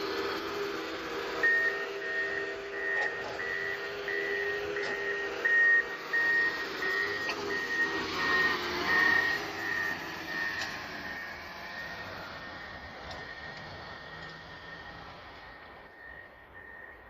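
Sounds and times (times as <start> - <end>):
diesel engine running: 0.0 - 17.0
reversing alarm beeping: 0.0 - 17.0.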